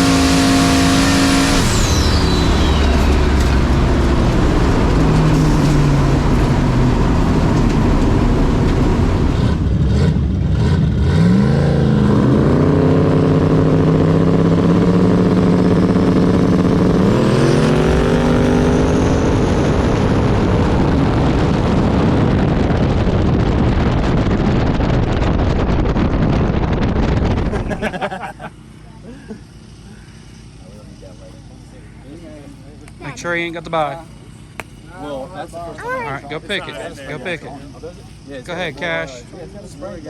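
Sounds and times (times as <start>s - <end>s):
race car engine running loud: 0.0s - 40.0s.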